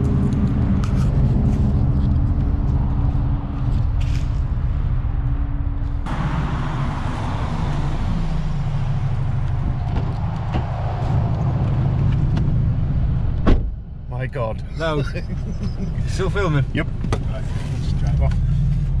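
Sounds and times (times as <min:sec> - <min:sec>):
car engine and exhaust drone: 0:00.0 - 0:19.0.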